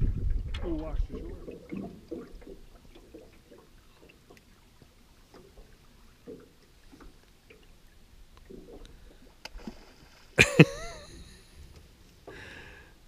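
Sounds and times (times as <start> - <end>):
small waves lapping on boat hull: 0.3 - 11.0.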